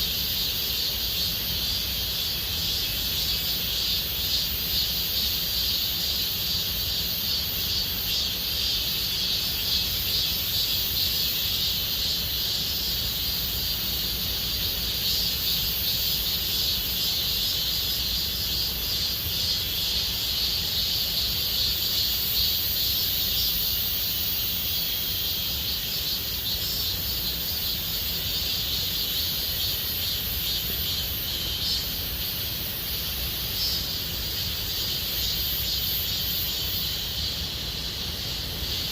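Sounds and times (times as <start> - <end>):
cicadas buzzing in chorus: 0.0 - 38.9.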